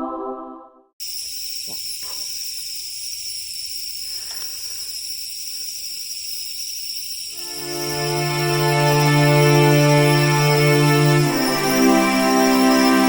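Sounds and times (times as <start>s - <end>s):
crickets and insects trilling: 1.0s - 13.0s.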